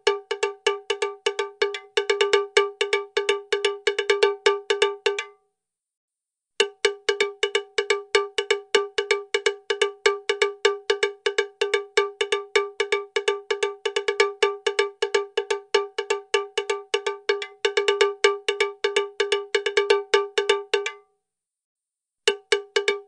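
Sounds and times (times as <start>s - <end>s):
cowbell-like metallic strikes: 0.0s - 5.4s, 6.6s - 21.0s, 22.3s - 23.0s.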